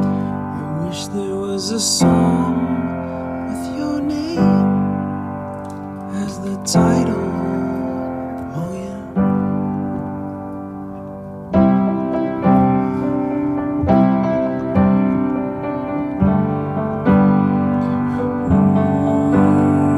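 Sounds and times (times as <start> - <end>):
piano chords ringing: 0.0 - 19.9.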